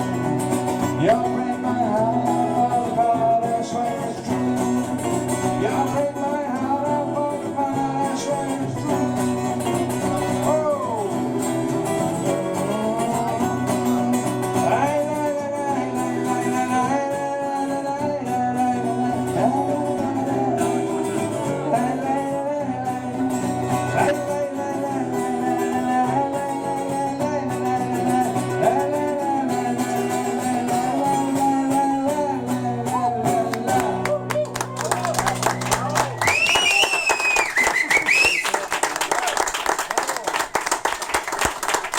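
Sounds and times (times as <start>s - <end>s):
guitar chords: 0.0s - 34.8s.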